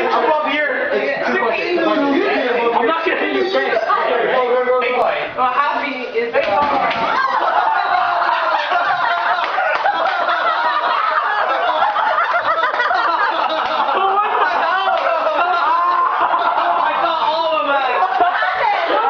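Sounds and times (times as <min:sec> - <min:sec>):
young men laughing: 0:00.0 - 0:04.5, 0:06.7 - 0:19.0.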